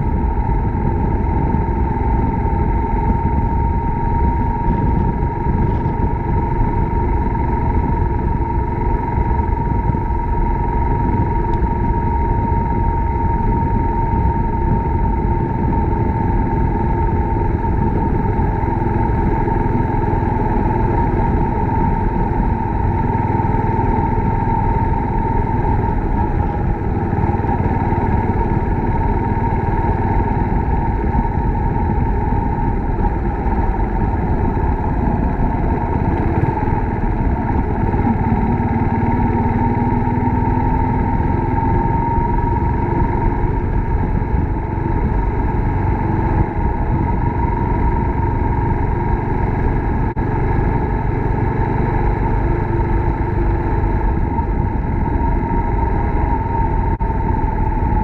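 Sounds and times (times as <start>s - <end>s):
motorcycle engine running: 0.0s - 58.0s
rushing wind noise: 0.0s - 58.0s.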